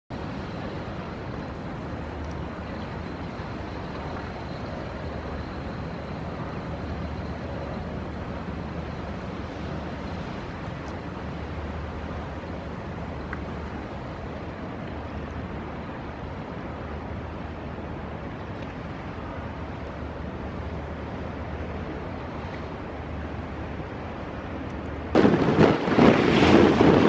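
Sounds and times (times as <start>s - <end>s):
continuous rushing hiss: 0.1s - 27.0s.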